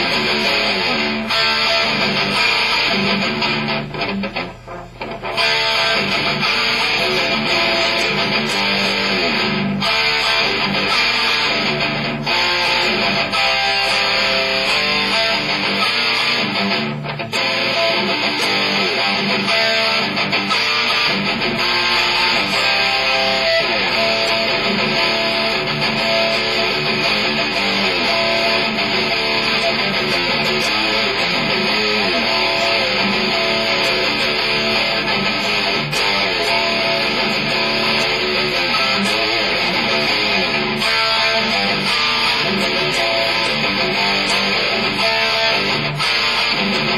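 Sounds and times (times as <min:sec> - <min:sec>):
electric guitar played with a pick: 0:00.0 - 0:46.9.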